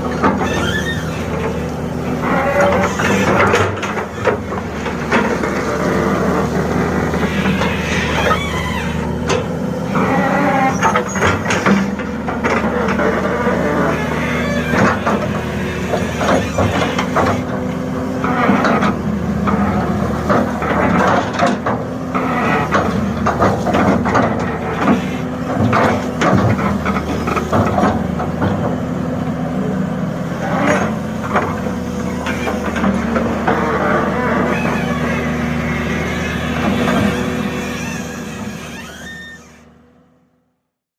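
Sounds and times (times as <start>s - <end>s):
excavator diesel engine running: 0.0s - 40.4s.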